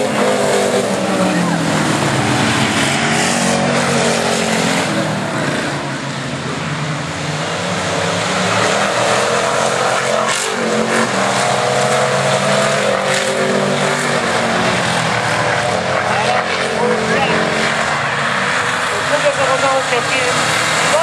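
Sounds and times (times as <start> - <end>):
race car engines: 0.0 - 21.0.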